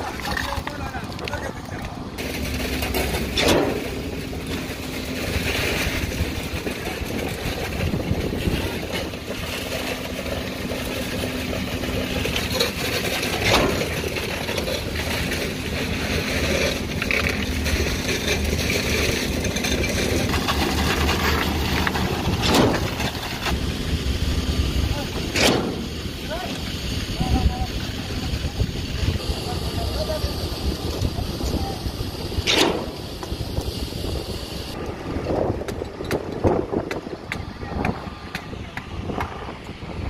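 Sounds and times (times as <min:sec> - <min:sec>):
concrete pump running: 0:00.0 - 0:40.0.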